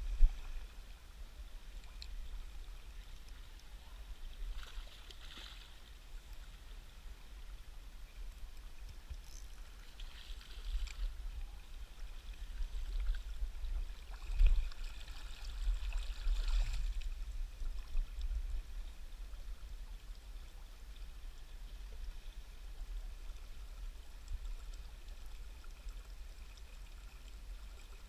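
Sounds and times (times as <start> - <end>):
flowing river water: 0.0 - 28.0.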